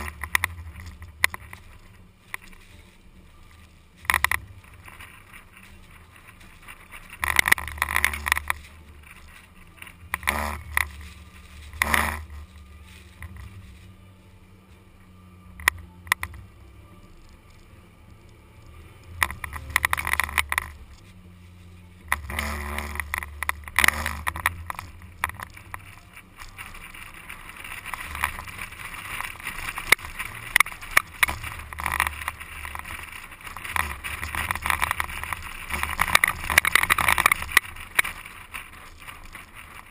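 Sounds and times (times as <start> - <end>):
engine drone: 0.0 - 39.9
hiss with sharp crackles: 0.0 - 39.9.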